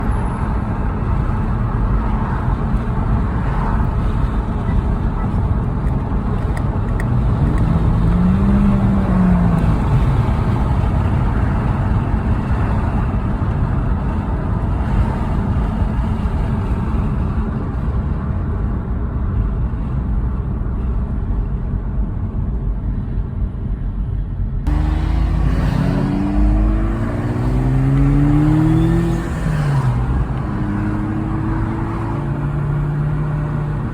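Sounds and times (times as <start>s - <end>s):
rotary engine rumbling: 0.0s - 19.1s, 24.6s - 33.9s.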